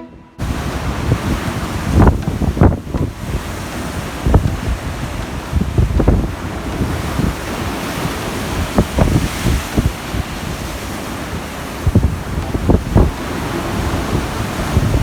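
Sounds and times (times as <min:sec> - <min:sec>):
rough sea: 0:00.0 - 0:15.0
rush of wind: 0:00.0 - 0:15.0
wind buffeting microphone: 0:00.0 - 0:15.0.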